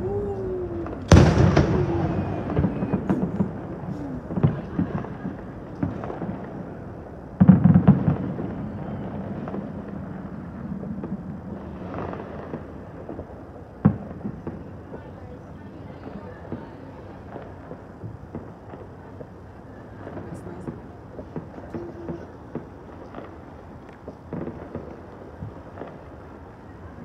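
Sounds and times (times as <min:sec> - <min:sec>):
fireworks banging: 0:00.0 - 0:27.0
fireworks crackling: 0:00.0 - 0:27.0.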